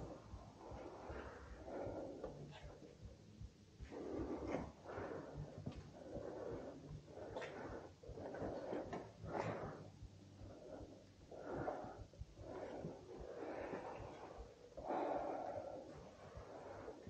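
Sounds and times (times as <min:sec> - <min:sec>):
person breathing heavily: 0:00.0 - 0:02.9, 0:03.8 - 0:17.0.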